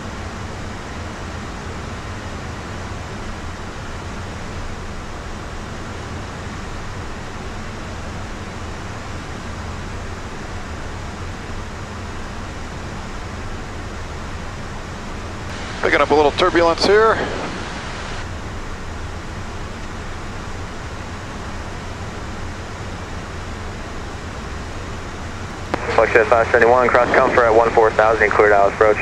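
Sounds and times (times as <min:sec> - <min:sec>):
jet cockpit airflow and engine noise: 0:00.0 - 0:29.0.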